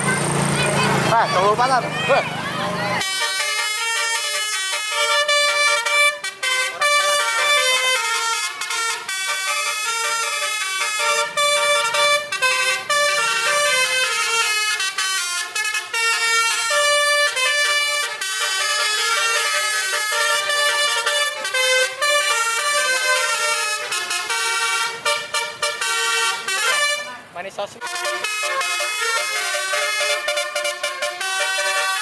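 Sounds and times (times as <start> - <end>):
multi-tone horn playing melody: 3.0 - 32.0.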